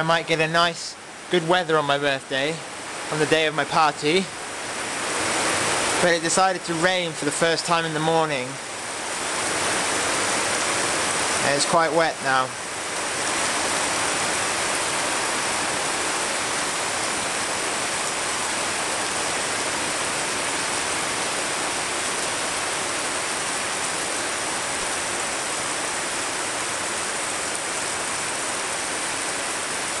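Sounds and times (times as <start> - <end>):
rain on leaves: 0.0 - 30.0.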